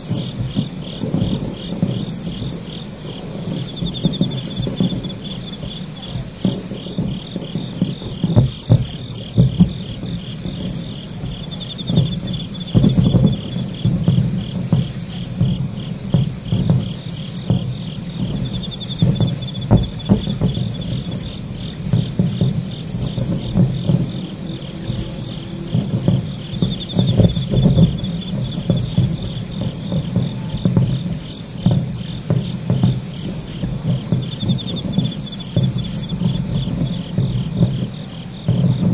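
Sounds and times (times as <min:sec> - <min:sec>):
distant fireworks booming: 0:00.0 - 0:38.9
fast pulsing insect trill: 0:00.0 - 0:38.9
high continuous insect trill: 0:00.0 - 0:38.9
very high insect chirp: 0:00.0 - 0:38.9.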